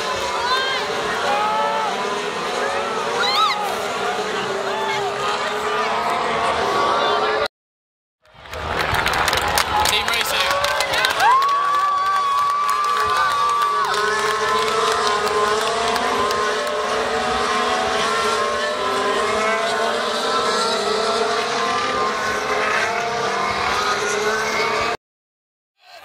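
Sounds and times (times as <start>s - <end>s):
racing car engines passing: 0.0s - 7.5s, 8.3s - 25.0s.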